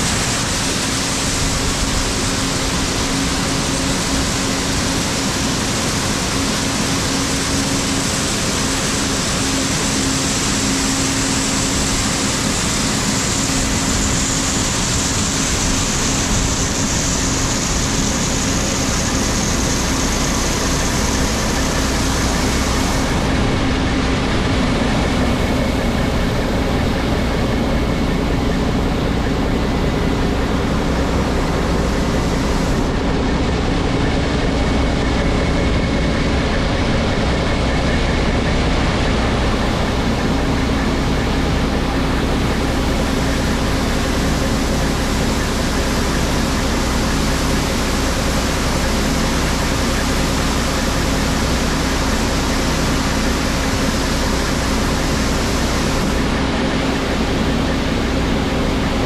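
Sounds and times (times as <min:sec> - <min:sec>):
diesel machinery drone: 0:00.0 - 0:59.0.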